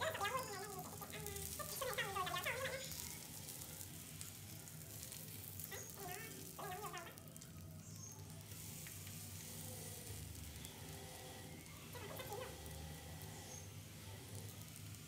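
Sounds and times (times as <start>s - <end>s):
sausages sizzling in oil: 0.0s - 15.0s.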